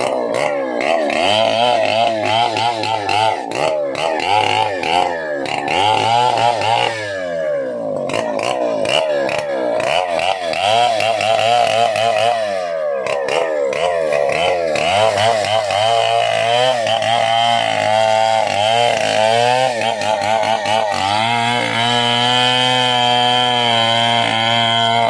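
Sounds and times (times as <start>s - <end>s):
chainsaw revving: 0.0s - 25.0s.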